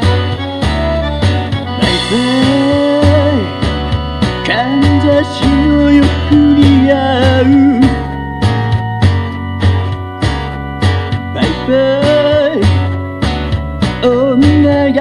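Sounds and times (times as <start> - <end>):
band backing with bass: 0.0 - 15.0
steady drum beat: 0.0 - 15.0.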